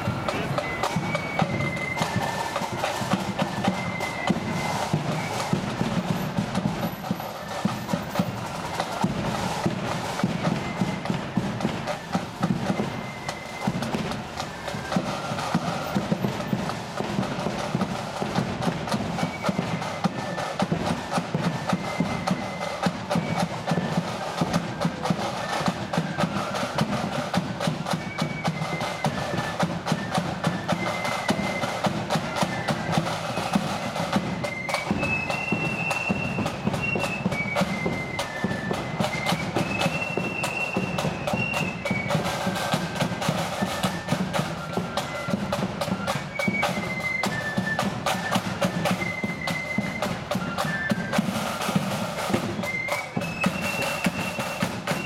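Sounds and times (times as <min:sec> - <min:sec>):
high flute melody: 0:00.0 - 0:55.0
rapid snare drumming: 0:00.0 - 0:55.0.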